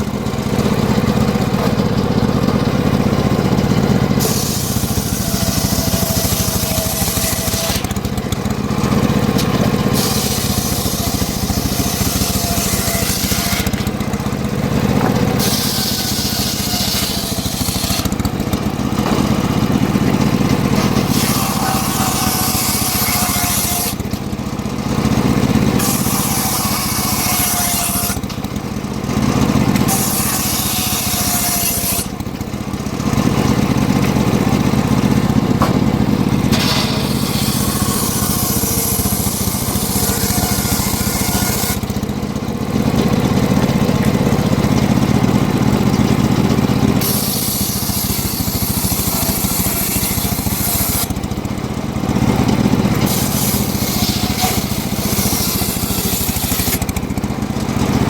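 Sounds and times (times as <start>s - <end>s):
engine hum: 0.0s - 58.0s
saw blade cutting log: 0.0s - 58.0s.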